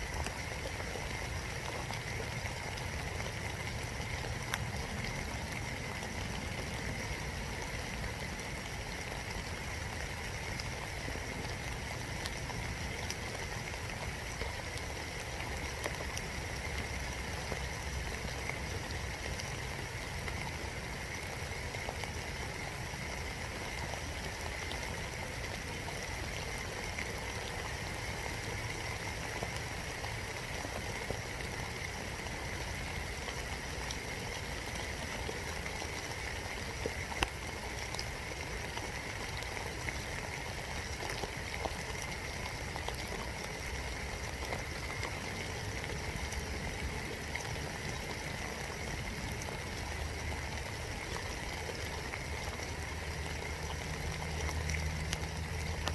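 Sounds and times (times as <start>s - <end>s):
raindrops ticking close by: 0.0s - 55.9s
steady rain hiss: 0.0s - 55.9s.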